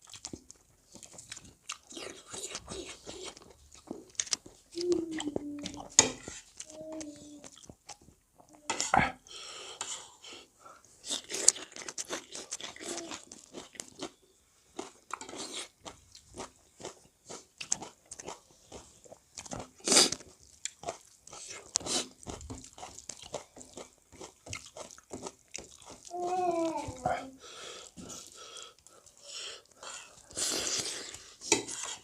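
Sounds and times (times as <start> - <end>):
person chewing and crunching food: 0.0 - 9.1, 9.8 - 32.0.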